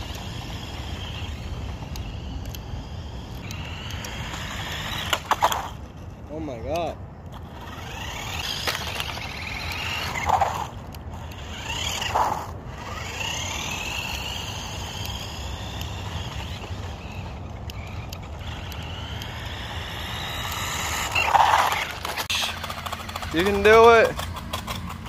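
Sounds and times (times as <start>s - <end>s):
toy car electric motor whining: 0.0s - 25.0s.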